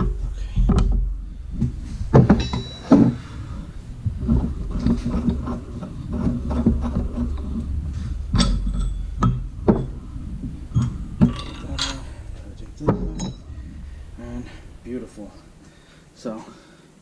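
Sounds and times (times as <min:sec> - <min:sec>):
metal knocks and clanks: 0:00.0 - 0:16.1
steady low hum: 0:00.0 - 0:17.0.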